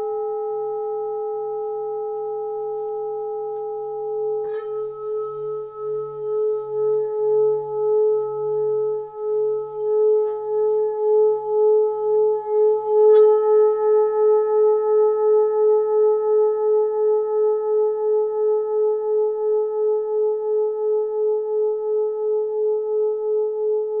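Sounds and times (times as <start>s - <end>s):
singing bowl ringing: 0.0s - 24.0s.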